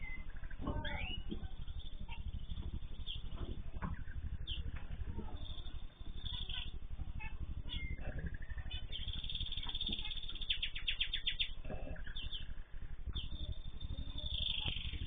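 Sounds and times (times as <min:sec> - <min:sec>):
birds chirping: 0:00.0 - 0:15.0
drawn-out bird call with note run: 0:00.0 - 0:15.0
steady low hum: 0:00.0 - 0:15.0.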